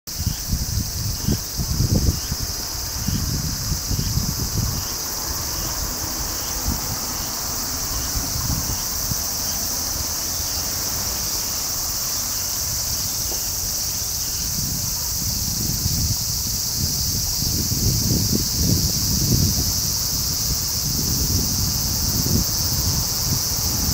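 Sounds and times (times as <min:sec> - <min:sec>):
insects chorus: 0:00.1 - 0:23.9
wind gusting on microphone: 0:00.1 - 0:23.9.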